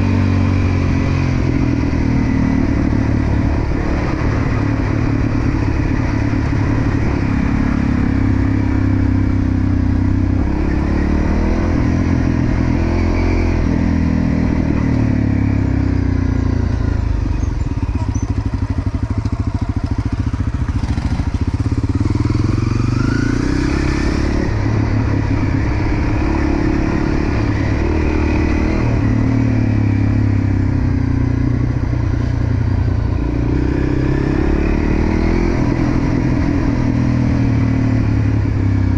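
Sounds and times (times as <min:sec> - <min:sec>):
motorbike engine revving: 0:00.0 - 0:38.9.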